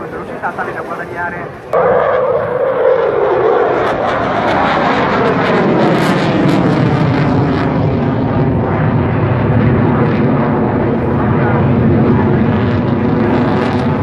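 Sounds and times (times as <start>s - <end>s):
aircraft engine flying overhead: 0.0s - 14.0s.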